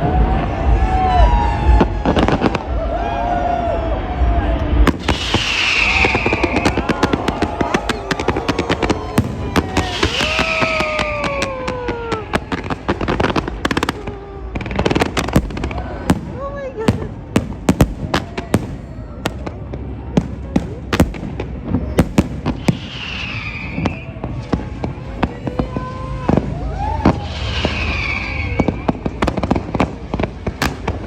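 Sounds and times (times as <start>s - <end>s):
crowd voices: 0.0s - 31.0s
fireworks bangs: 0.0s - 31.0s
low rumble: 0.0s - 31.0s.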